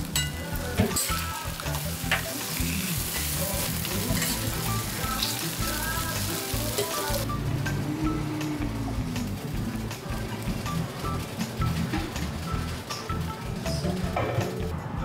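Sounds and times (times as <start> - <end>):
food sizzling on a griddle: 0.0 - 14.7.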